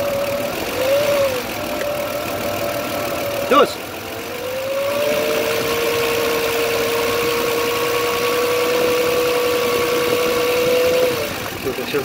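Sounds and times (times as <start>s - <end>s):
car engine revving: 0.0s - 12.0s
steady whine: 0.0s - 12.0s.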